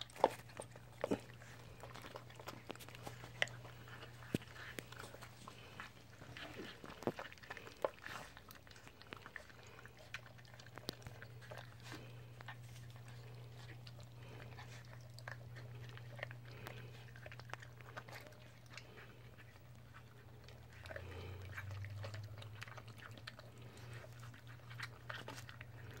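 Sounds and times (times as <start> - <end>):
dogs crunching dry kibble: 0.0 - 26.0
steady low hum: 0.0 - 26.0.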